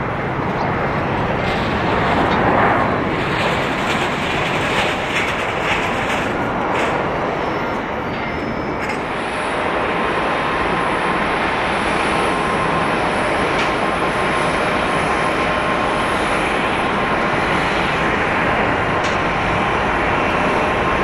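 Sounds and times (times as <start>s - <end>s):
jet engines roaring: 0.0s - 21.0s
thin steady whine: 0.0s - 21.0s.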